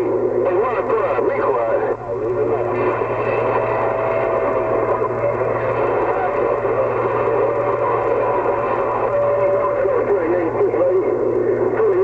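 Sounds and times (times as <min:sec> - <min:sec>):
low hum: 0:00.0 - 0:12.0
radio static hiss: 0:00.0 - 0:12.0.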